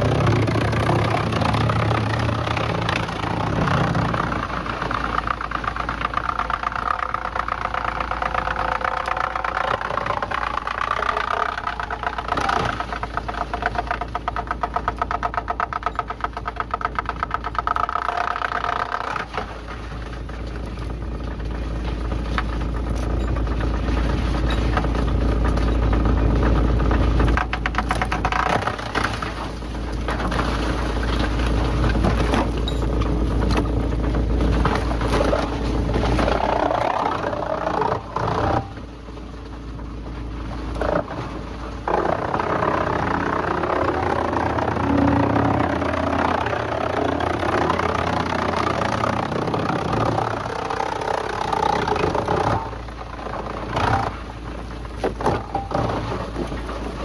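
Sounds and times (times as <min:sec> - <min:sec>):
engine-driven machinery running: 0:00.0 - 0:57.0.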